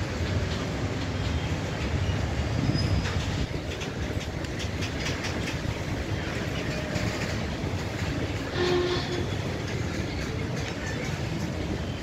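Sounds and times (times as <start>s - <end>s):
freight train wheels clacking: 0.0s - 12.0s.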